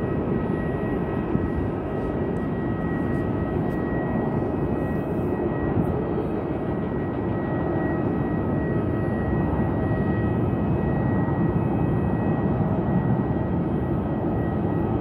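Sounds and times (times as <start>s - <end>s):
jet engine rumble with high whine: 0.0s - 15.0s.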